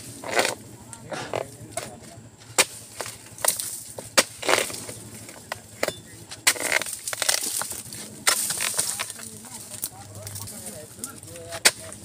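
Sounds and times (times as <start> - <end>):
chisel chopping palm fronds: 0.0 - 12.0.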